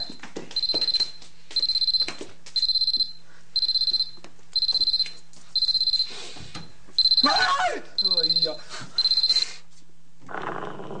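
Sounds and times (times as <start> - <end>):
high-pitched electronic beeps: 0.0 - 6.2, 7.0 - 9.6.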